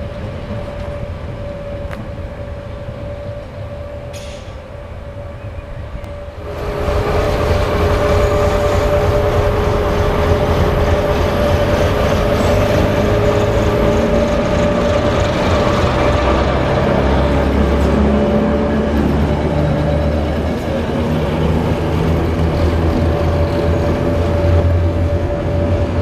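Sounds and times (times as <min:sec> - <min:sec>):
diesel locomotive engine rumble: 0:00.0 - 0:26.0
locomotive whine: 0:00.0 - 0:26.0.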